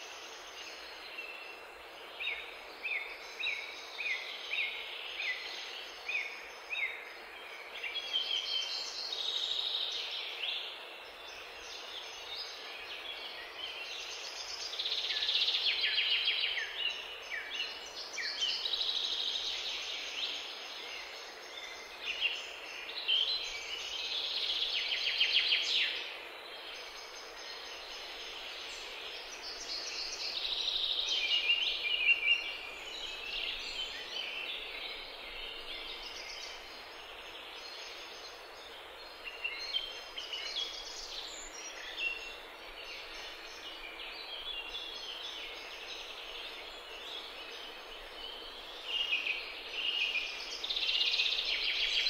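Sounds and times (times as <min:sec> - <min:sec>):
songbirds singing and trilling: 0:00.0 - 0:52.0.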